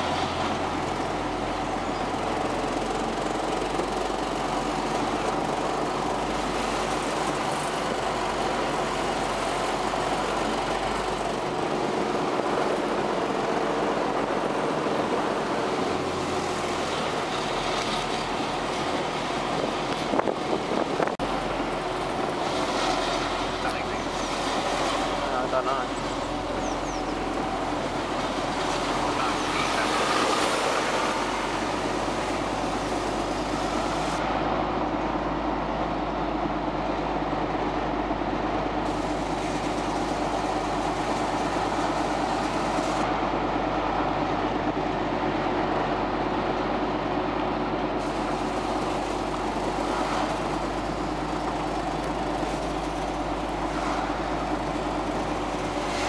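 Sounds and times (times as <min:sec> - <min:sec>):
tractor diesel engine droning: 0:00.0 - 0:56.0.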